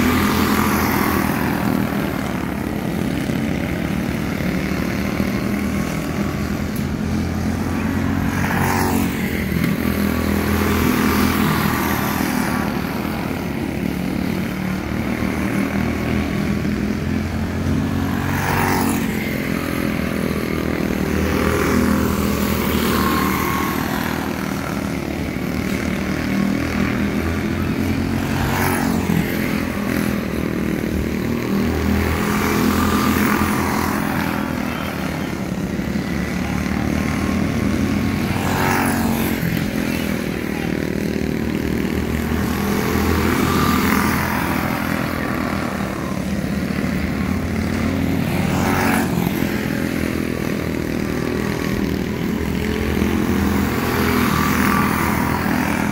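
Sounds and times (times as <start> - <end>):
small race car engines passing: 0.0 - 55.9.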